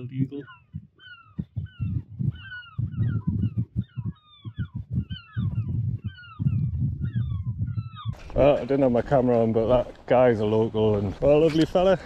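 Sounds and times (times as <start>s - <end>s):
seagulls calling: 0.0s - 10.8s.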